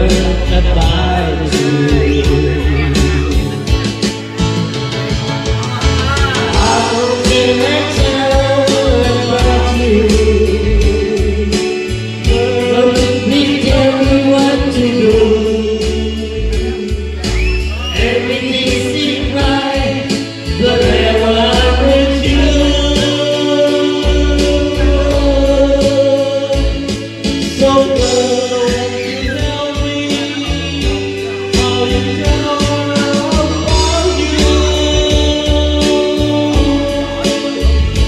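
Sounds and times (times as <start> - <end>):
karaoke backing track with bass beat: 0.0 - 38.0
man singing into microphone: 0.0 - 38.0.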